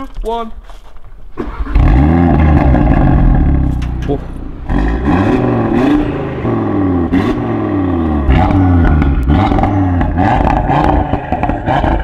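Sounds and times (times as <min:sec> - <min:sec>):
car engine revving: 0:01.4 - 0:12.0.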